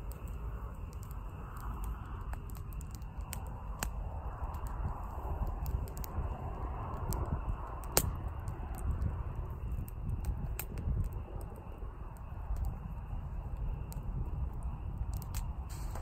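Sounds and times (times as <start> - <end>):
campfire crackling: 0.0 - 16.0
sharp pops of burning wood: 0.0 - 16.0.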